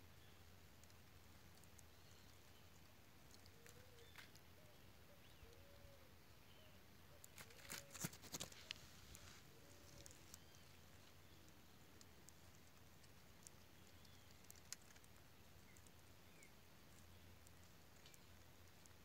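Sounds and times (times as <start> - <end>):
sharp clicks and crackles: 0.6 - 4.5, 7.2 - 19.0.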